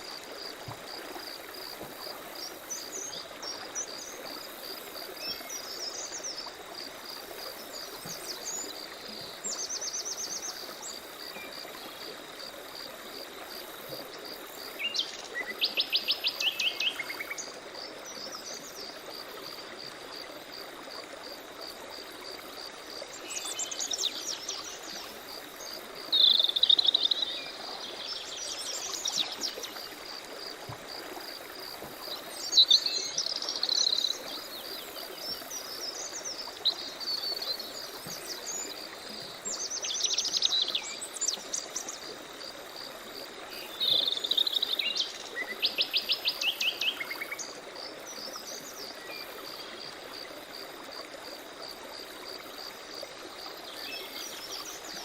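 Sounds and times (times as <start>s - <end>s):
insect chirping: 0.0s - 55.0s
running stream water: 0.0s - 55.0s.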